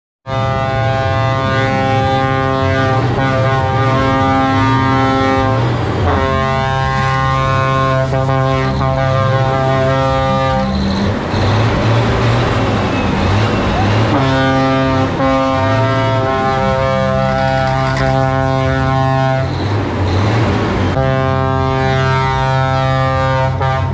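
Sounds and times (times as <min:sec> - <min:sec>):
truck air horn blasts: 0:00.2 - 0:23.9
low engine note: 0:00.3 - 0:23.9.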